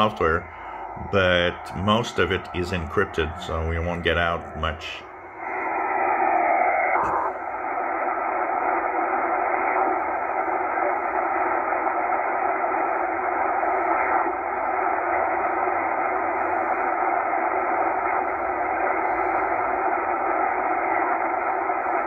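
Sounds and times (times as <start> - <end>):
faint steady tones: 0.0 - 22.0
radio static hiss: 0.0 - 22.0.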